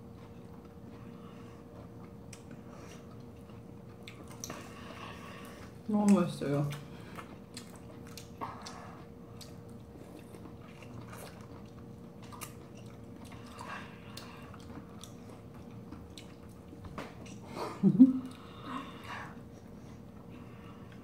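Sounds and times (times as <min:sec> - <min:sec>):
chewing and biting fruit: 0:00.0 - 0:17.6.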